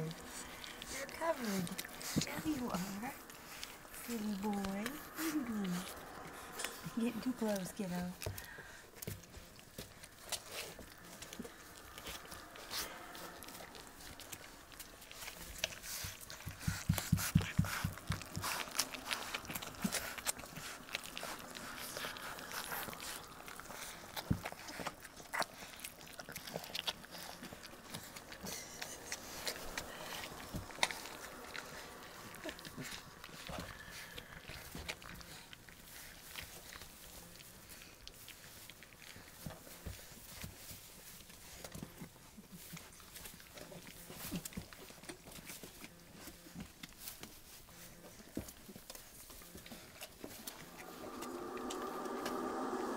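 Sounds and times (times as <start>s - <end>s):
puppies chewing wet food: 0.0s - 52.9s.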